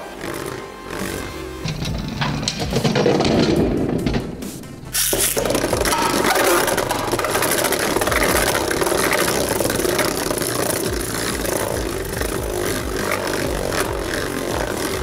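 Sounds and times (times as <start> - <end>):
spinning tops whirring: 0.0 - 15.0
tops clicking and rattling: 0.0 - 15.0.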